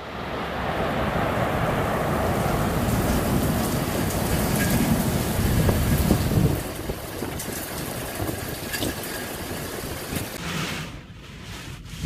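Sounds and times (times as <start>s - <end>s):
thunder rumble: 0.0s - 10.4s
heavy rain pouring: 0.5s - 10.4s.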